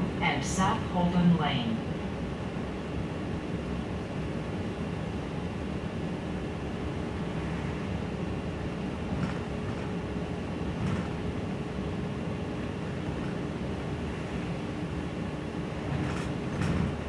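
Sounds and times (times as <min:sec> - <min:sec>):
bus engine and road rumble: 0:00.0 - 0:17.0
faint steady whine: 0:00.0 - 0:17.0.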